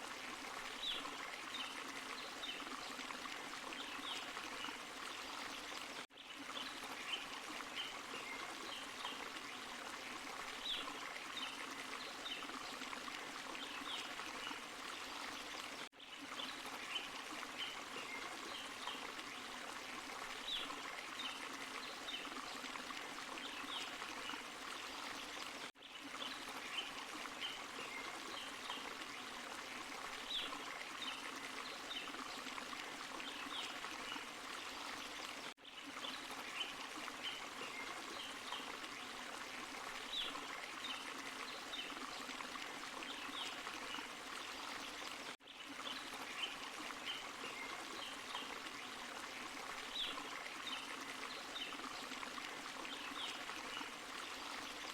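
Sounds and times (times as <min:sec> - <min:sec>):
stream and waterfall splashing: 0:00.0 - 0:54.9.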